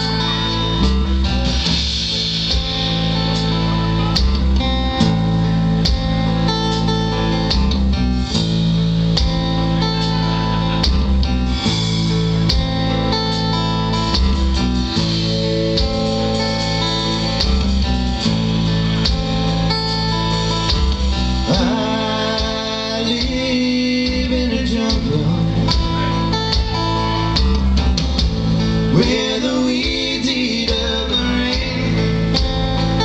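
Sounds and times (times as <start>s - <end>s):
bass guitar: 0.0s - 33.0s
drum kit: 0.0s - 33.0s
electric and acoustic guitars: 0.0s - 33.0s.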